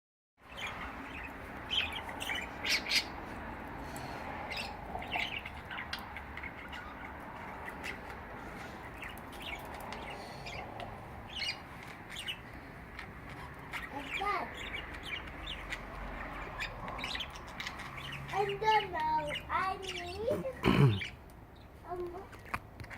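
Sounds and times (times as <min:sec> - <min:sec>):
budgerigars chirping and squawking: 0:00.4 - 0:22.9.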